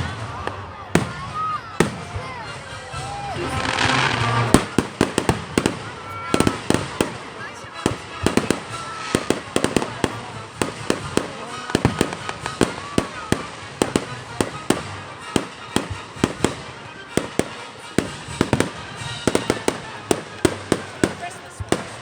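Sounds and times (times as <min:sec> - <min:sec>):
firework whistling: 0:00.0 - 0:22.0
fireworks bangs and crackling: 0:00.0 - 0:22.0.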